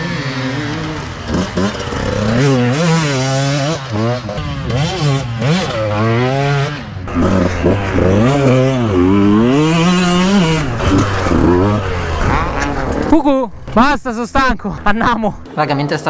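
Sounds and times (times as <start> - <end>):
motocross bike engine revving: 0.0 - 15.6.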